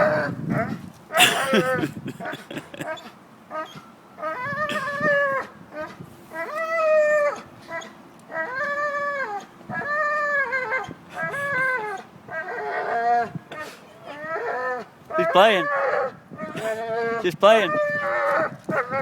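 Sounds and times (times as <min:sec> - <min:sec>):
dog whining: 0:02.8 - 0:19.0.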